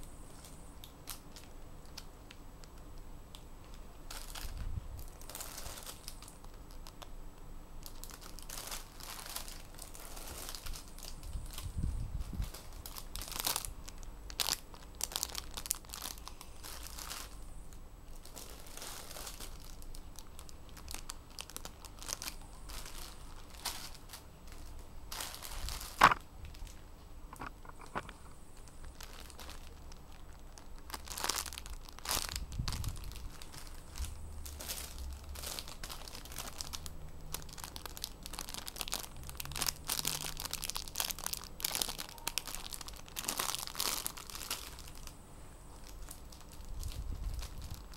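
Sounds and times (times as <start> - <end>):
plastic bags crinkling: 0.0 - 7.1, 7.8 - 47.9.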